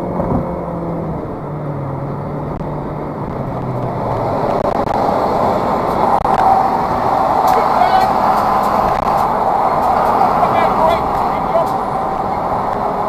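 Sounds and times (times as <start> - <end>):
car engine: 0.0 - 13.0
tyre road noise: 0.0 - 13.0.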